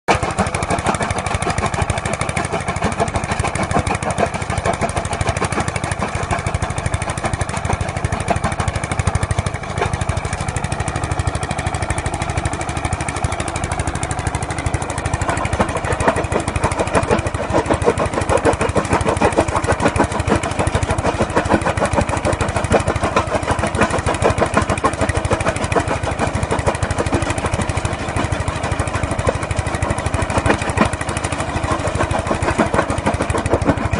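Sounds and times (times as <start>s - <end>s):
diesel engine chugging: 0.1s - 33.9s
mechanical clatter: 0.1s - 33.9s.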